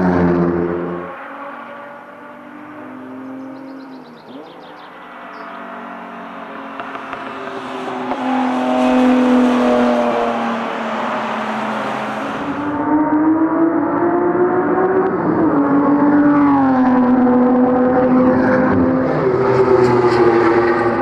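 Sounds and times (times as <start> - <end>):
race car engines at speed: 0.0 - 21.0.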